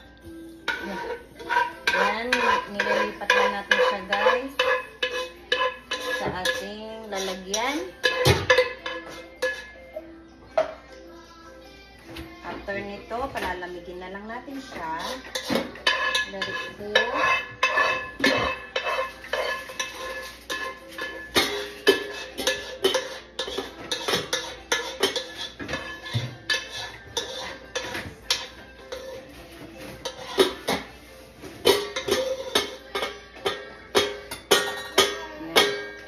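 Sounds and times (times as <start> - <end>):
spoon and cookware clinking: 0.0 - 10.9, 14.7 - 36.0
music playing: 0.0 - 36.0.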